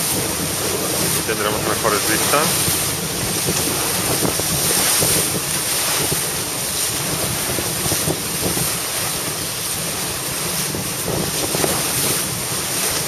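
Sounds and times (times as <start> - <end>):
water splashing along boat hull: 0.0 - 13.0
wind buffeting microphone: 0.0 - 13.0.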